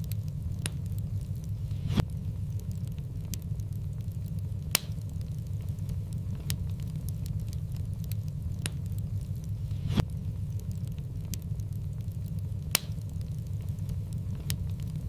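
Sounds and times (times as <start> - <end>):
low rumble: 0.0 - 15.0
sharp fire pops: 0.0 - 15.0
wood fire crackling: 0.0 - 15.0.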